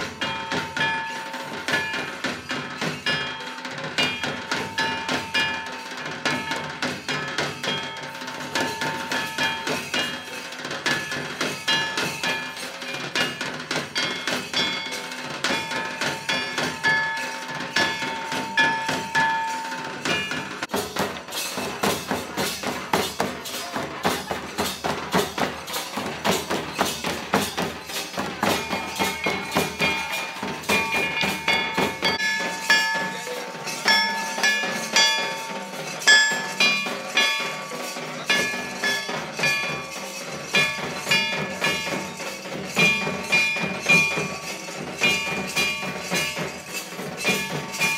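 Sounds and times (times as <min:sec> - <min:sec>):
fast festival drumming: 0:00.0 - 0:47.9.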